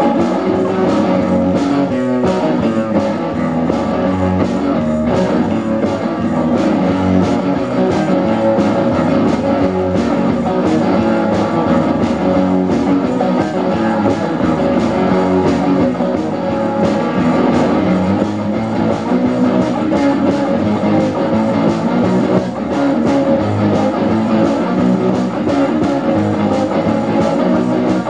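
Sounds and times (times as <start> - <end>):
loud electric guitars: 0.0 - 28.0
steady drum beat: 0.0 - 28.0.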